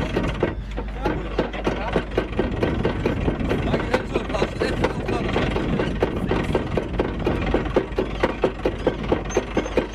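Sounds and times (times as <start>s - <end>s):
windlass mechanical knocking: 0.0s - 9.9s.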